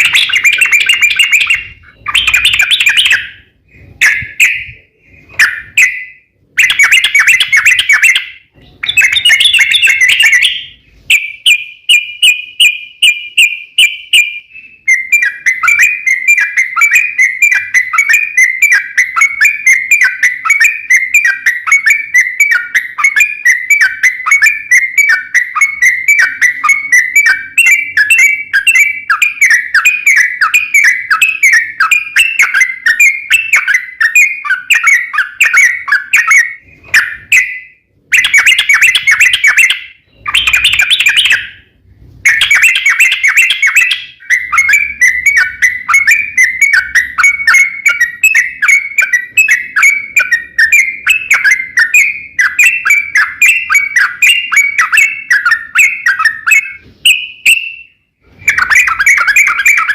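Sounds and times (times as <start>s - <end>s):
bird chattering and trilling: 0.0s - 59.9s.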